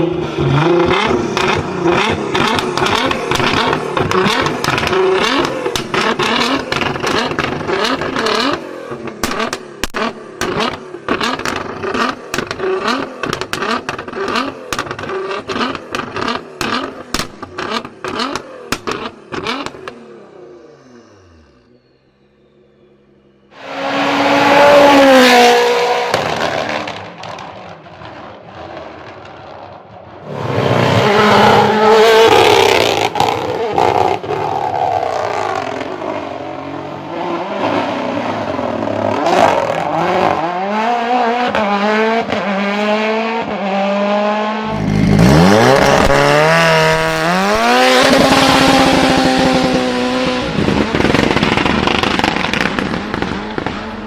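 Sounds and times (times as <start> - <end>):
sports car engines revving: 0.0 - 54.0.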